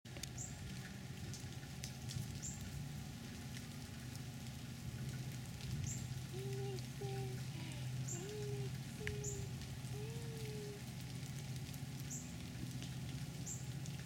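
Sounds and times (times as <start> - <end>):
rain pattering on pavement: 0.1 - 14.0
steady low hum: 0.5 - 14.0.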